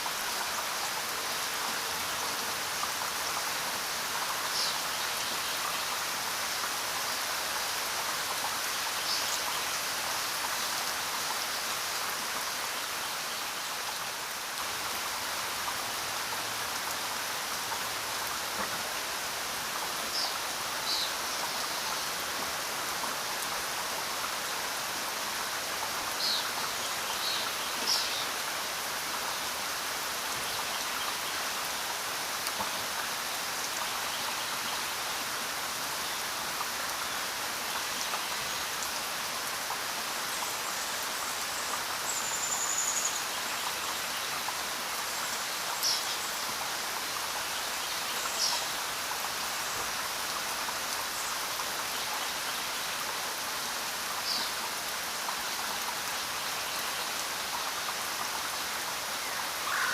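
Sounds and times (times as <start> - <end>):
rain on road and foliage: 0.0 - 59.9.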